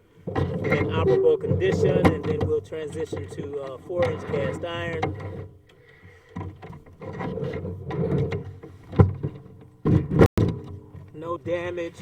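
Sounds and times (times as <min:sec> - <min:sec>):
camera rod scraping inside pipe: 0:00.3 - 0:11.0.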